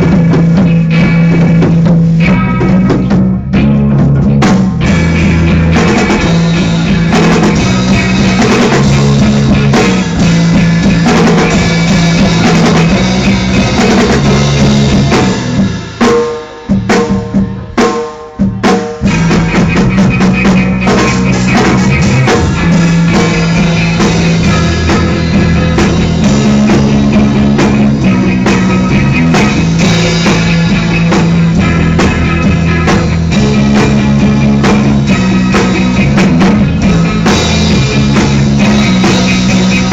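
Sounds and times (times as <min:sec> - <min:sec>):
drum kit: 0:00.0 - 0:39.9
rock band playing: 0:00.0 - 0:39.9.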